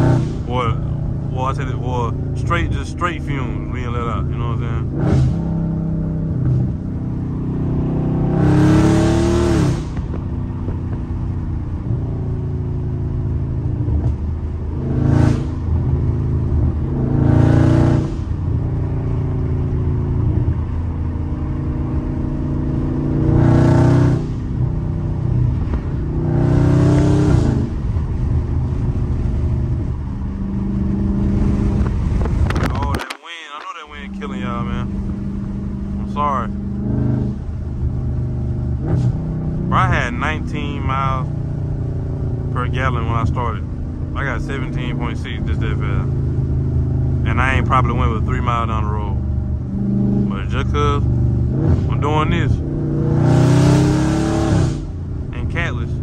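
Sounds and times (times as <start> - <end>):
car exhaust drone from inside cabin: 0.0 - 33.1, 34.0 - 56.0.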